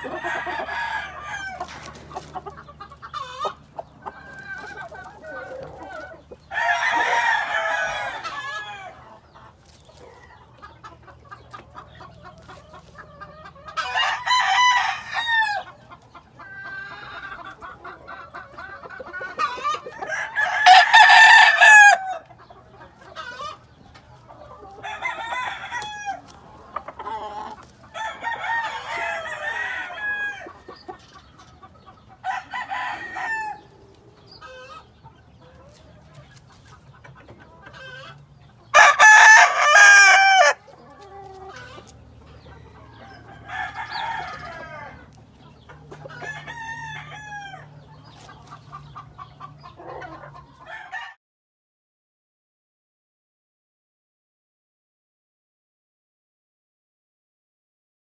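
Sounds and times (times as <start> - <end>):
roosters crowing: 0.0 - 36.2, 37.6 - 51.2.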